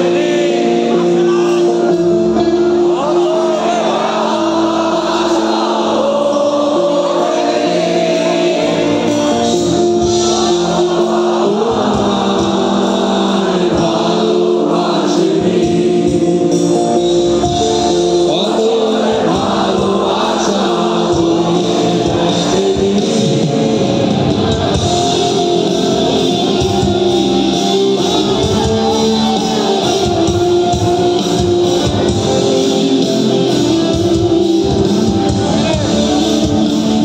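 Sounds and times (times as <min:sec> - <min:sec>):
electric guitar: 0:00.0 - 0:37.0
live rock band playing: 0:00.0 - 0:37.0
person singing: 0:00.0 - 0:37.0.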